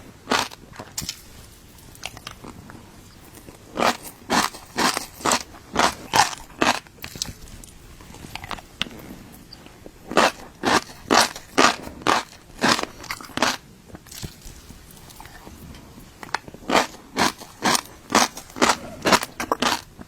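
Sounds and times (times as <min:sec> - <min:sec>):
crunchy chewing: 0:00.2 - 0:20.0.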